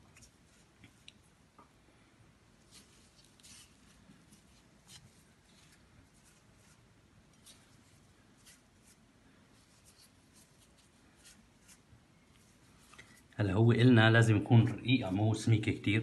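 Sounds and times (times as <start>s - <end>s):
plastic gloves rustling dough: 0.0s - 16.0s.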